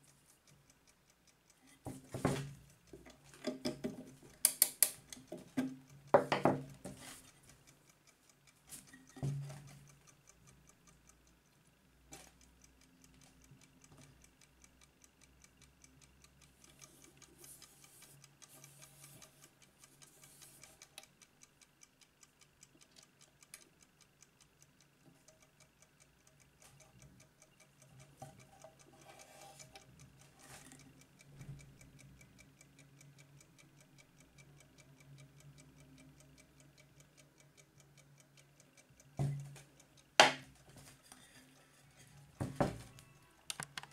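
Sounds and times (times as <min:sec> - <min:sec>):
clock ticking rapidly: 0:00.0 - 0:43.9.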